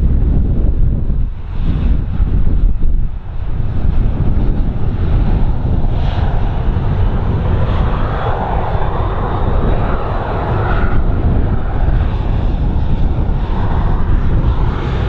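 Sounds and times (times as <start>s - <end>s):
airliner engines rushing: 0.0s - 15.0s
wind buffeting the microphone: 0.0s - 15.0s.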